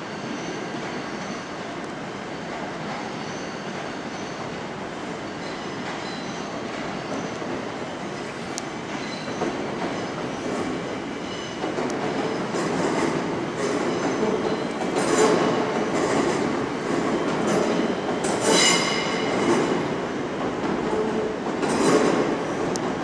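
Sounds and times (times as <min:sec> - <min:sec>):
train wheels squealing on rails: 0:00.0 - 0:19.9.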